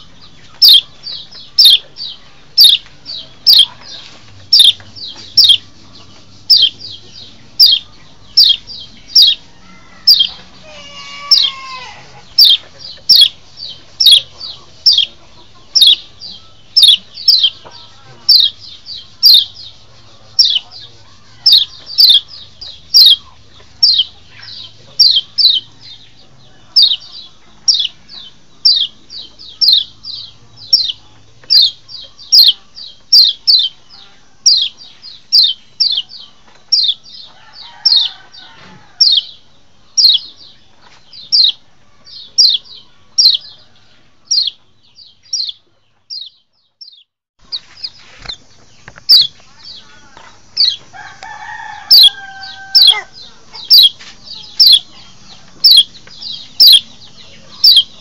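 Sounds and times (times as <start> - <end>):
bird high downward chirps: 0.0 - 58.0.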